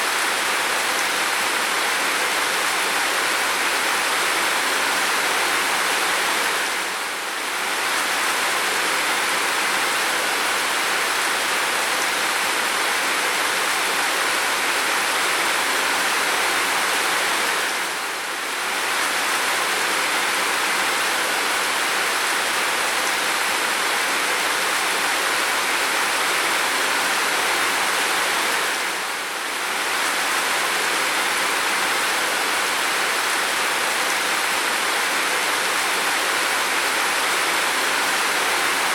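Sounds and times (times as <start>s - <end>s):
heavy rain downpour: 0.0s - 38.9s.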